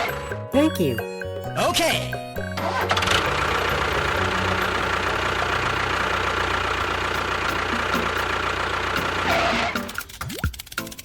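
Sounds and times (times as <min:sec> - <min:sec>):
engine running with knocking pulse: 0:02.2 - 0:11.0.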